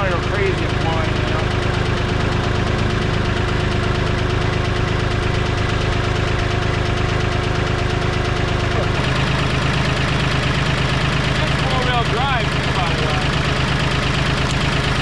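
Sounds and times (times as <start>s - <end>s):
engine idling with knock: 0.0s - 15.0s.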